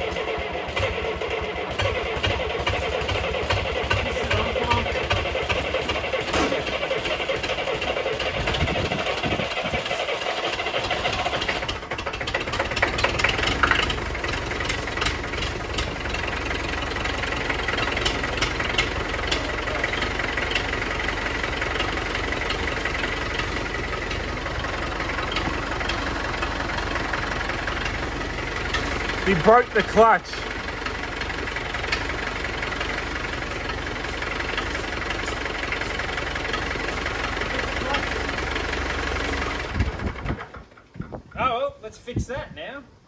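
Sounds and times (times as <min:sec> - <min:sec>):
tractor engine running: 0:00.0 - 0:41.4.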